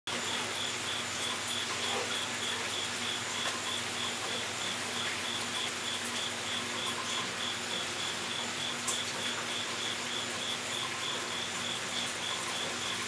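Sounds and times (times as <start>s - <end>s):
insect chirping: 0.2s - 13.0s.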